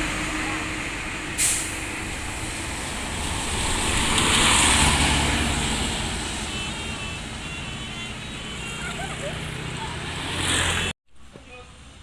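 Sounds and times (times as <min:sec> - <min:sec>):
vehicle passing by: 0:00.0 - 0:07.5, 0:08.1 - 0:10.9.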